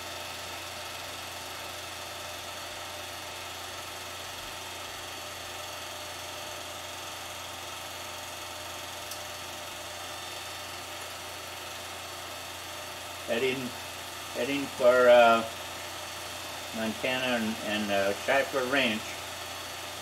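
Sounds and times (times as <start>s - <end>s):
film projector whirring: 0.0s - 20.0s.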